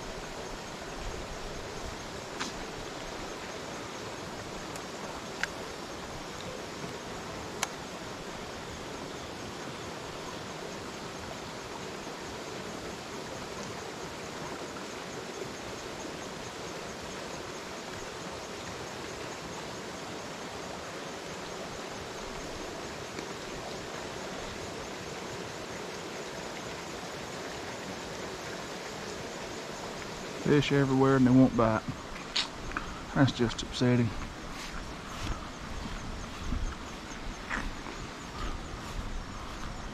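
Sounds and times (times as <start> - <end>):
flowing creek water: 0.0 - 39.9.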